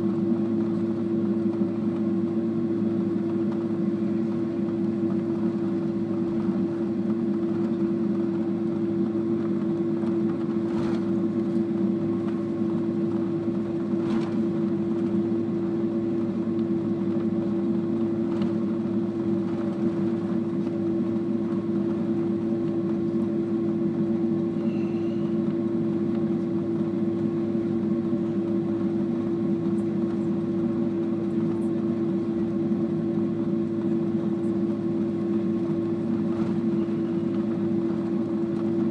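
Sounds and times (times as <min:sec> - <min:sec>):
idling jet engines drone: 0:00.0 - 0:38.9.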